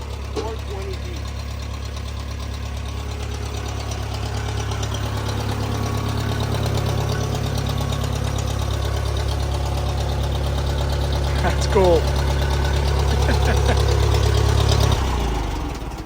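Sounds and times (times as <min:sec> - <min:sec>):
backhoe engine idling: 0:00.0 - 0:16.0.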